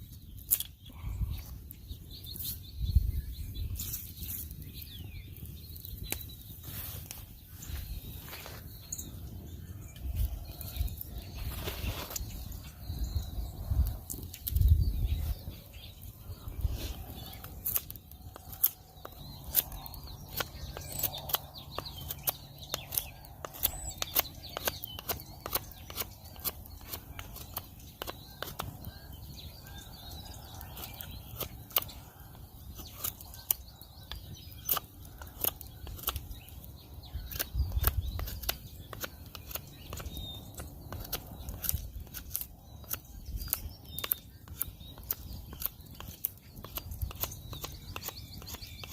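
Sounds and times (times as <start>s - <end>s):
faint bird chirps: 0.0s - 48.9s
campfire crackling and popping: 3.5s - 8.0s, 13.2s - 48.9s.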